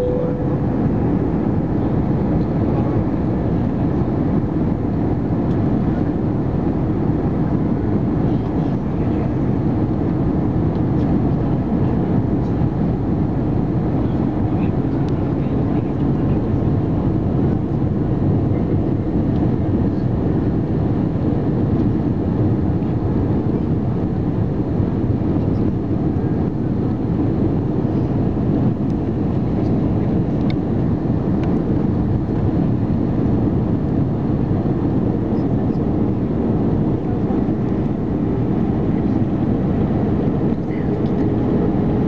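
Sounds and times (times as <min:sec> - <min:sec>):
jet engine cabin rumble: 0:00.0 - 0:42.0.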